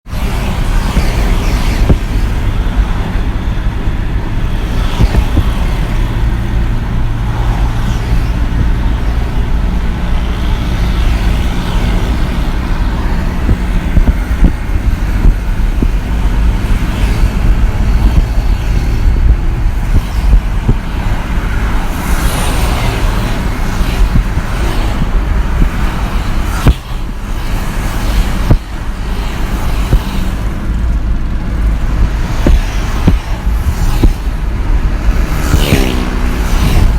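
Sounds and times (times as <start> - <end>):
vehicles passing on road: 0.0 - 36.9.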